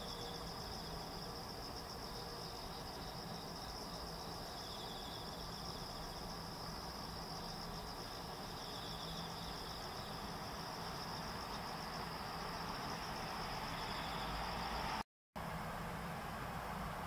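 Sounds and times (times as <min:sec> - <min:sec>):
insects trilling chorus: 0:00.0 - 0:15.0
lower insect trill: 0:00.0 - 0:15.0.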